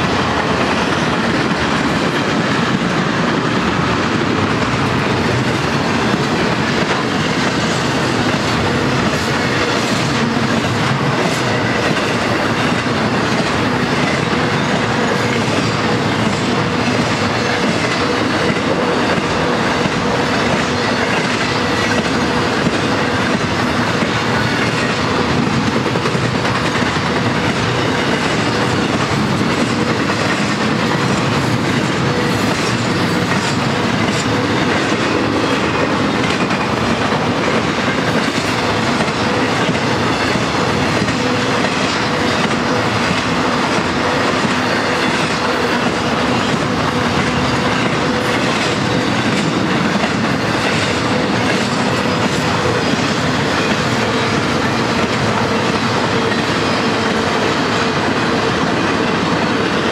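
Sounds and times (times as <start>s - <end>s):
freight train cars rolling past: 0.0s - 59.9s
steel wheels on rails: 0.0s - 59.9s.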